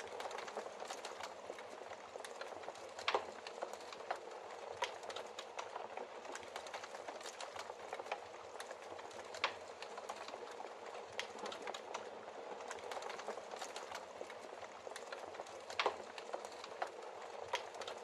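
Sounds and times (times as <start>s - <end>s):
wood fire crackling in fireplace: 0.0s - 18.0s.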